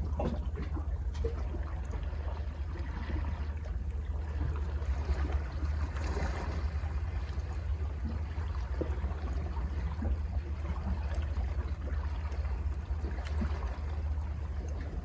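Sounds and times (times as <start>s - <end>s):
sea waves splashing: 0.0s - 15.0s
steady low rumble: 0.0s - 15.0s.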